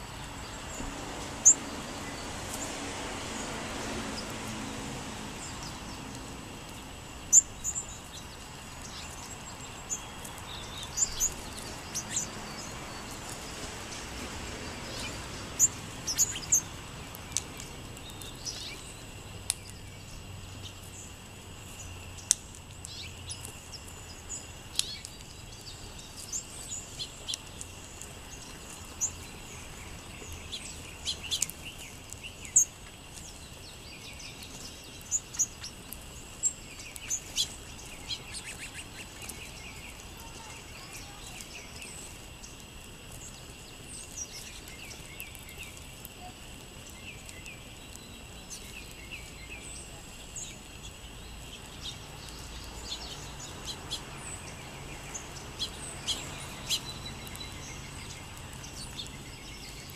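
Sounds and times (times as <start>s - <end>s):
sparrows chirping: 0.0s - 59.9s
steady background hiss: 0.0s - 59.9s.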